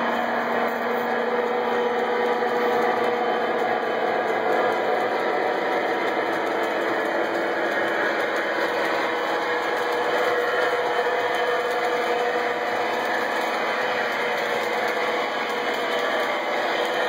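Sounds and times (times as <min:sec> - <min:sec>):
model train wheels rumbling: 0:00.0 - 0:17.0.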